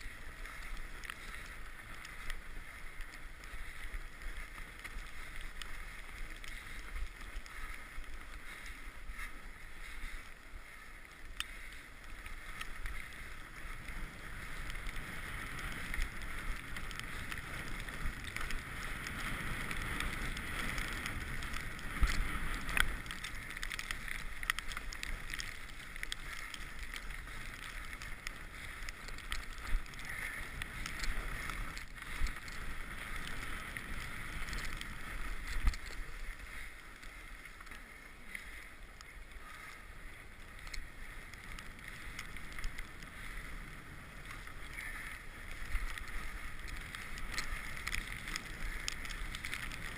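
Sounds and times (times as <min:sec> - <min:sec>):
bike rolling and rattling: 0:00.0 - 0:49.9
wind rumble: 0:00.0 - 0:49.9.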